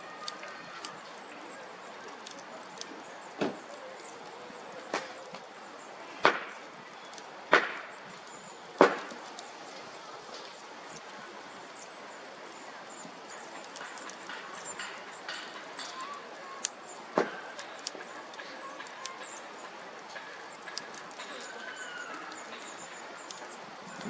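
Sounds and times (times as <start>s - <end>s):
sharp cracks: 0.0s - 11.2s, 13.2s - 24.0s
low background noise: 0.0s - 24.0s.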